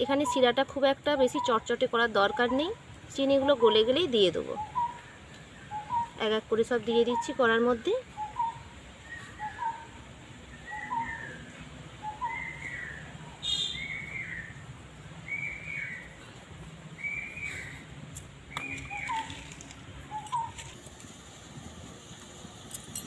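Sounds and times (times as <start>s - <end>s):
bird calling: 0.2s - 16.3s, 17.0s - 17.9s, 18.5s - 20.8s.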